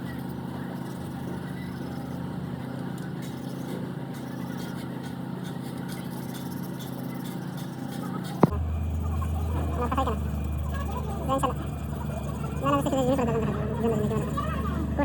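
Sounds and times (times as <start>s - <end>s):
low machine drone: 0.0s - 15.0s.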